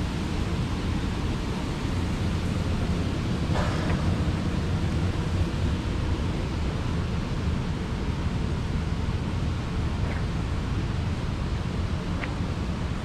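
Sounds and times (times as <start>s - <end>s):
ventilation blowers rushing air: 0.0s - 13.0s.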